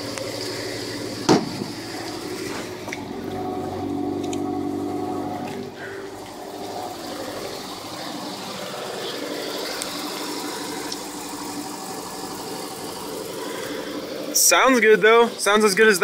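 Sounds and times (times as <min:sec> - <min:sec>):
rain hissing: 0:00.0 - 0:05.0, 0:05.7 - 0:14.8
car engine idling: 0:00.0 - 0:16.0.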